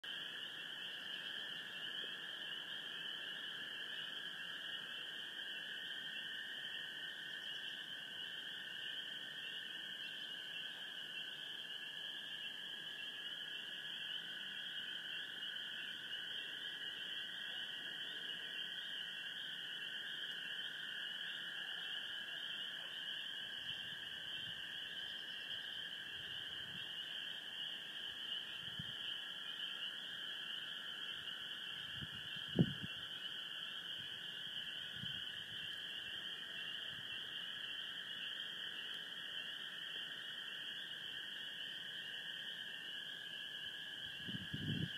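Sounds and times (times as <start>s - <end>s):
frogs chorus calling: 0.0s - 44.9s.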